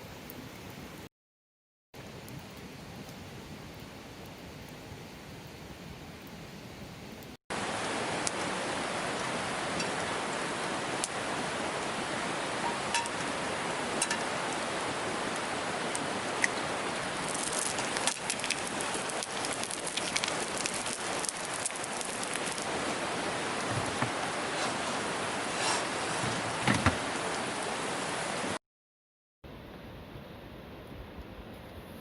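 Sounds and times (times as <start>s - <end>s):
steady rain: 0.0s - 1.1s, 2.0s - 28.6s.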